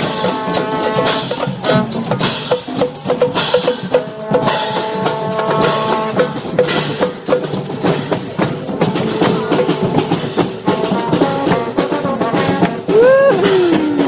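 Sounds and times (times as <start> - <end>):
percussion music with drums: 0.0 - 14.0.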